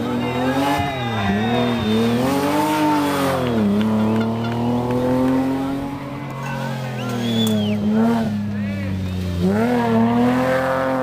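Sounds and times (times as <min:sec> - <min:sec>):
rally car engine running hard: 0:00.0 - 0:11.0.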